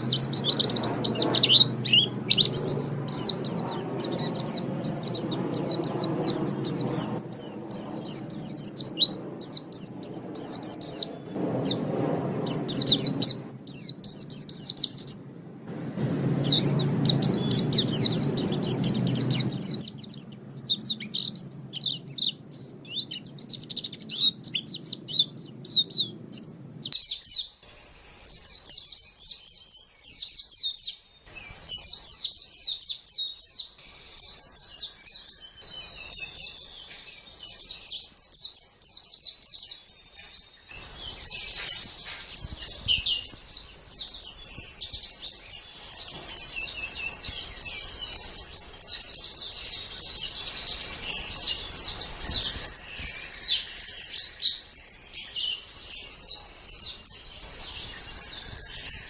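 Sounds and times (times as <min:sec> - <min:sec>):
bird chattering song: 0:00.0 - 0:59.0.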